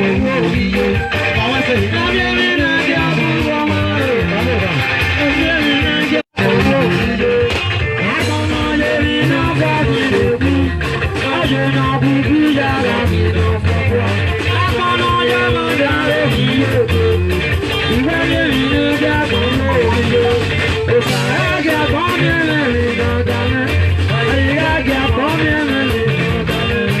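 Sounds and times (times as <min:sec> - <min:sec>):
bass: 0:00.0 - 0:27.0
guitar: 0:00.0 - 0:27.0
person singing: 0:00.0 - 0:27.0.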